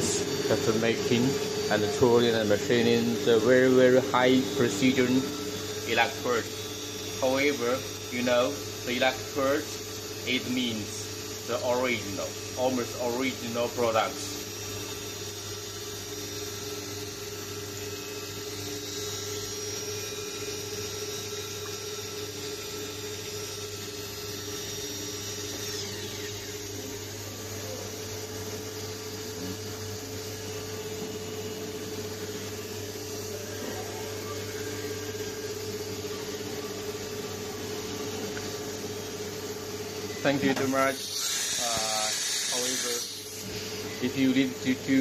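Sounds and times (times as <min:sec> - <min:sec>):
high spindle whine: 0:00.0 - 0:45.0
machine motor hum: 0:00.0 - 0:45.0.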